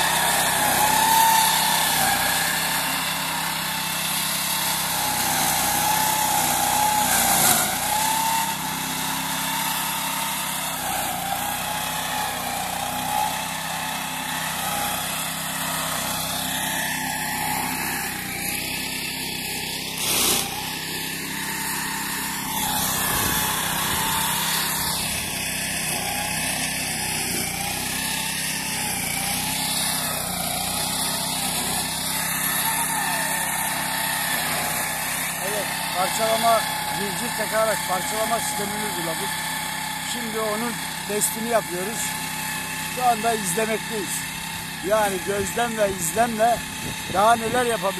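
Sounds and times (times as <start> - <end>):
mowing machine engine running: 0.0 - 47.9.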